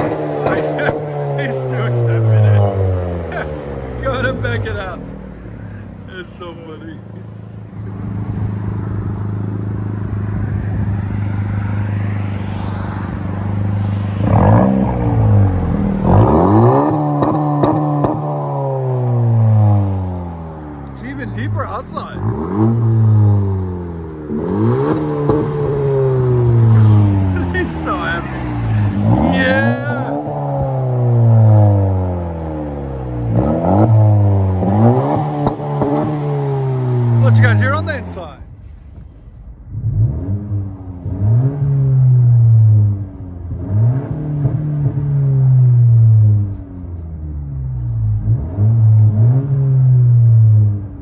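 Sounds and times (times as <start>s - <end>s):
car engine idling and revving: 0.0s - 51.0s
exhaust cracks: 0.0s - 51.0s.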